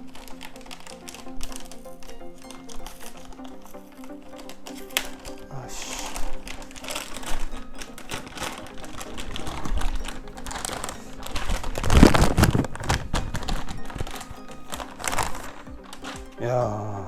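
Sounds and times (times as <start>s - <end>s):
graphics card packaging rustling: 0.0s - 16.9s
background music: 0.0s - 17.0s.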